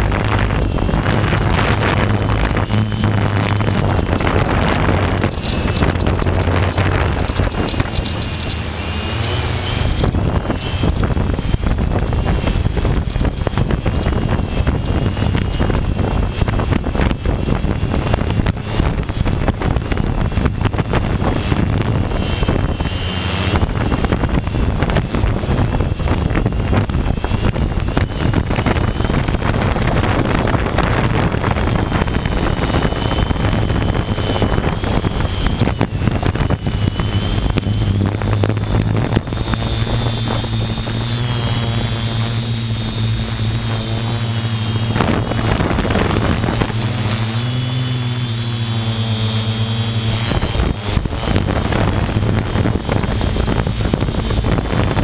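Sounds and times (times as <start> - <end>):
drone motors whining: 0.0 - 55.0
wind buffeting microphone: 0.0 - 55.0.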